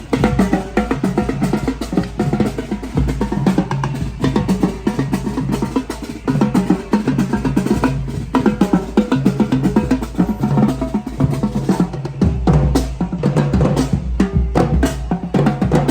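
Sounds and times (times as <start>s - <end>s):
percussion ensemble drumming: 0.0s - 15.9s.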